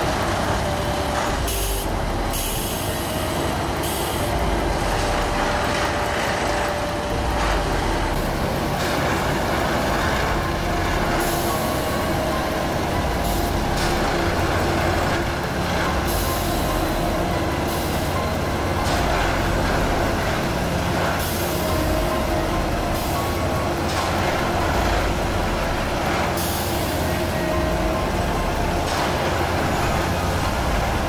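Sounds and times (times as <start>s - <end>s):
machine engine and hydraulics: 0.0s - 31.0s.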